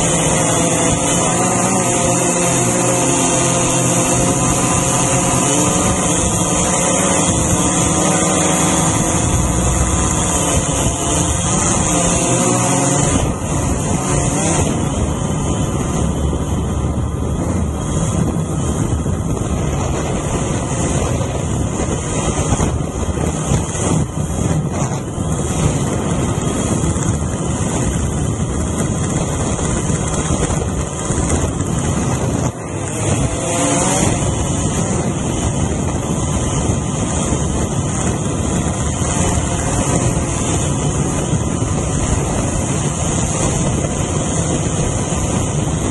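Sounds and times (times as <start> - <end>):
drone propellers whirring: 0.0 - 45.9
wind on microphone: 0.0 - 45.9.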